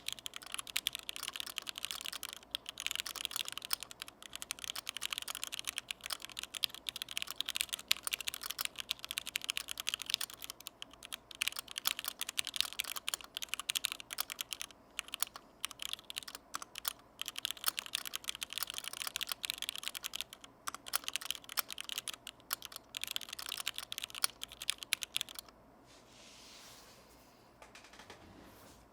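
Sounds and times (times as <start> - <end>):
mechanical keyboard typing: 0.0 - 25.5.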